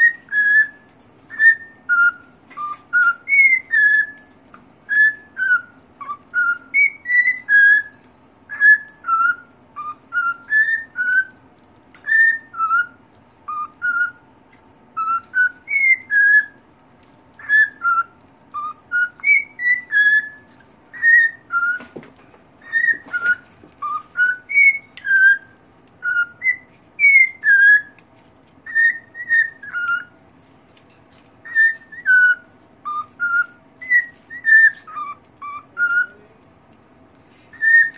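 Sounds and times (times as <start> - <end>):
cockatiel whistling song: 0.0 - 16.7, 17.3 - 22.0, 22.6 - 30.2, 31.4 - 36.2, 37.5 - 37.9.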